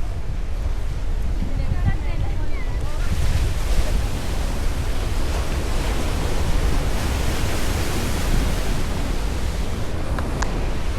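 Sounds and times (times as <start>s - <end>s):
sea waves washing on beach: 0.0s - 10.9s
wind buffeting microphone: 0.0s - 10.9s.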